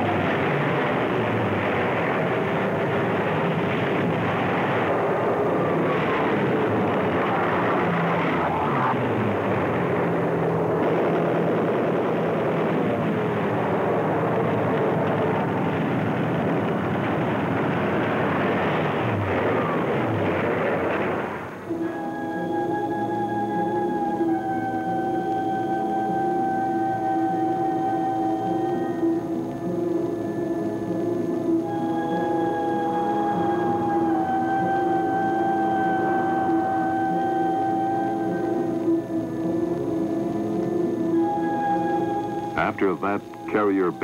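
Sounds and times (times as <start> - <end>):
warplane engines droning: 0.0 - 44.0.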